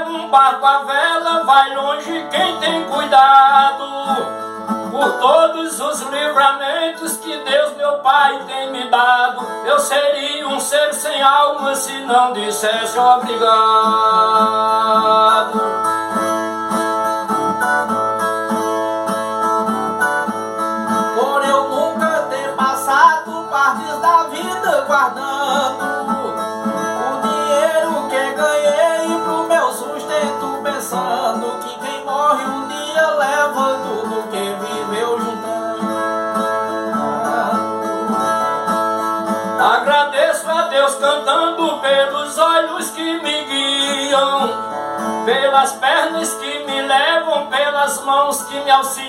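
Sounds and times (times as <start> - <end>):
plucked guitar melody: 0.0 - 49.0.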